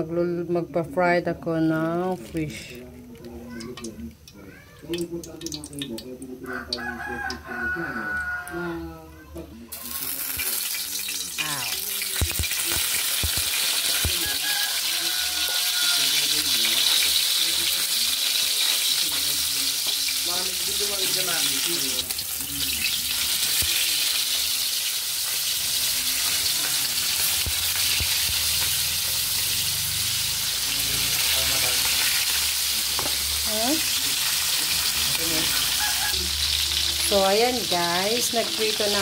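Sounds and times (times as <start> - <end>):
fish sizzling in hot oil: 3.6 - 8.6, 9.7 - 39.0.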